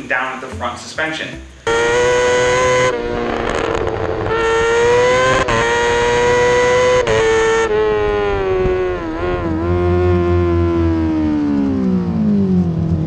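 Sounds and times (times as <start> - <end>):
motorcycle engine high-pitched howl: 1.7 - 13.0.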